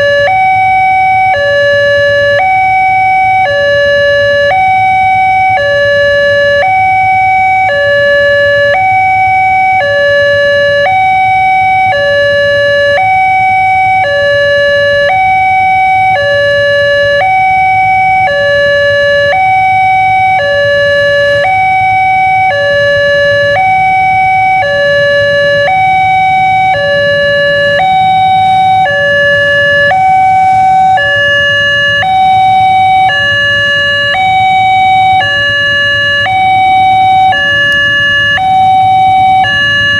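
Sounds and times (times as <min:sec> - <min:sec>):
two-tone level-crossing alarm: 0:00.0 - 0:39.9.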